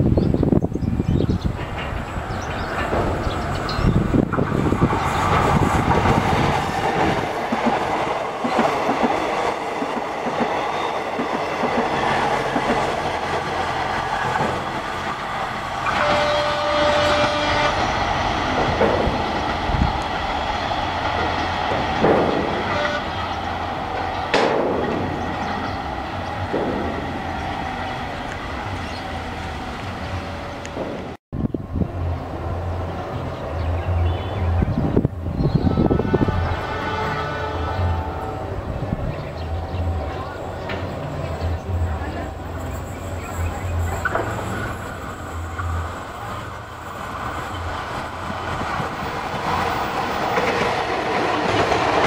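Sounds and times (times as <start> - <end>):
diesel train passing: 0.0 - 52.0
clickety-clack over rail joints: 1.2 - 31.2, 40.1 - 52.0.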